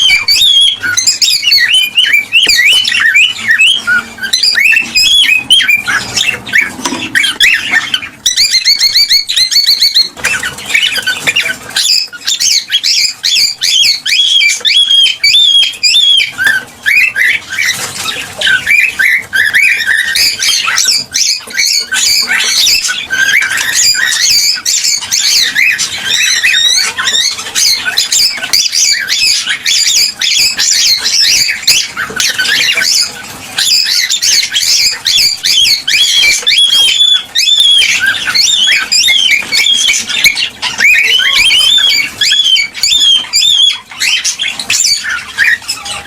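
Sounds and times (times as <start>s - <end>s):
cockatiels chirping and squawking: 0.0s - 46.0s
repeated high bird notes: 0.0s - 46.0s.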